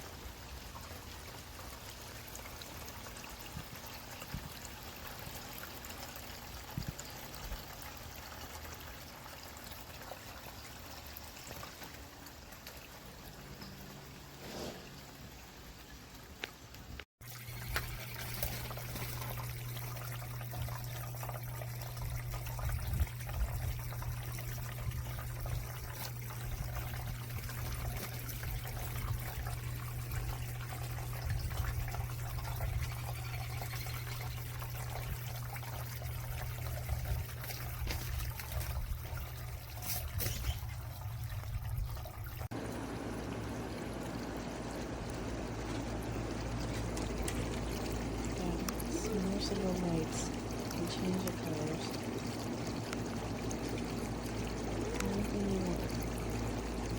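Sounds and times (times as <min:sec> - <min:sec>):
fountain water trickling and splashing: 0:00.0 - 0:56.9
low pump hum: 0:00.0 - 0:56.9.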